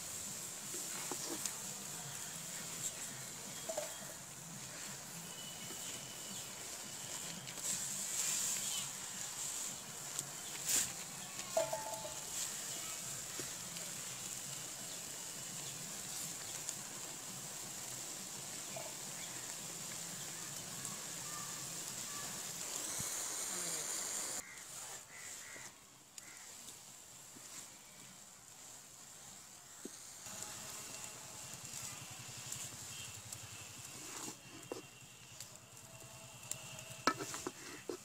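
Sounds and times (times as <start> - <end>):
spinach sizzling in a pan: 0.0 - 38.0.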